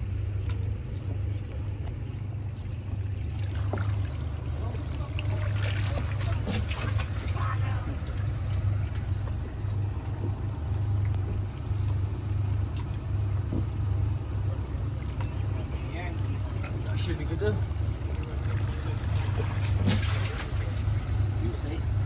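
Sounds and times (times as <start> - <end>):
outboard motor idling: 0.0 - 22.0
water splashes: 0.0 - 22.0.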